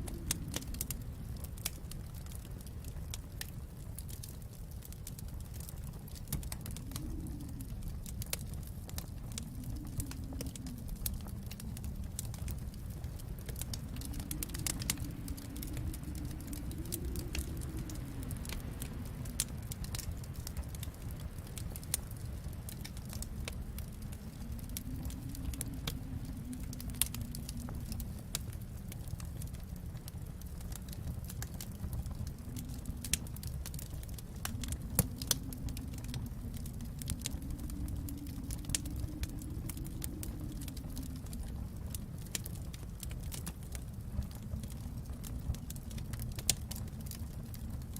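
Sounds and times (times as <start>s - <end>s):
low rumble of flames: 0.0s - 47.9s
wood fire crackling: 0.0s - 47.9s.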